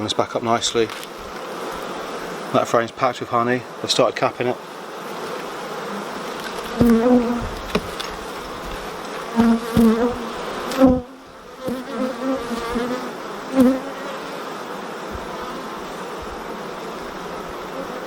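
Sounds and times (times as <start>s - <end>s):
honeybees buzzing: 0.0s - 18.0s
bee flying past: 0.6s - 18.0s.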